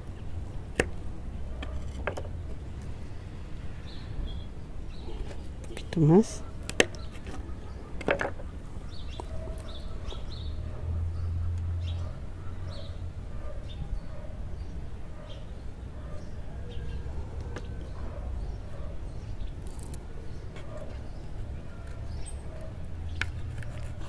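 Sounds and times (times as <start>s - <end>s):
small birds chirping: 3.1s - 23.7s.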